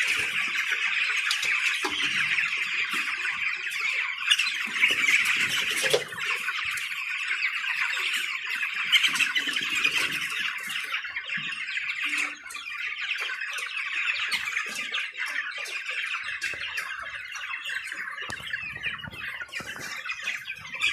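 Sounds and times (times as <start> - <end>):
chicks peeping: 0.0 - 20.9.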